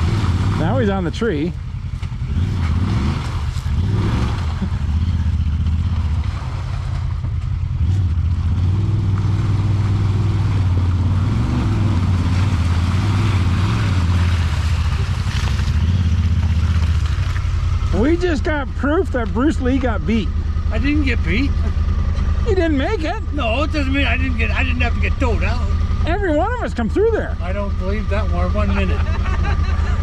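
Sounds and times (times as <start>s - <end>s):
utv engine droning: 0.0s - 30.0s.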